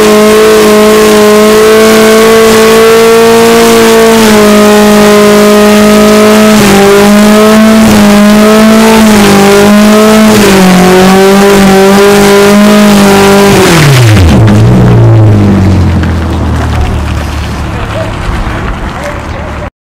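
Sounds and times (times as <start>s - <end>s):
car engine revving high: 0.0s - 19.6s.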